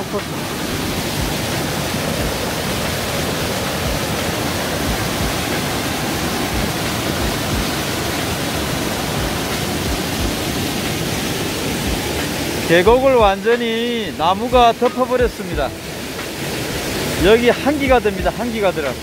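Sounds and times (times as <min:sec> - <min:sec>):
waterfall rushing over boulders: 0:00.0 - 0:19.0.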